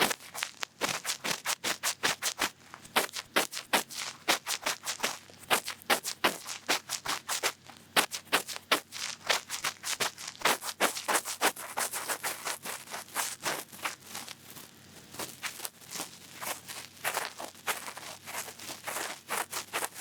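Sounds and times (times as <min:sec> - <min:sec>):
cotton bud scratching in ear: 0:00.0 - 0:20.0.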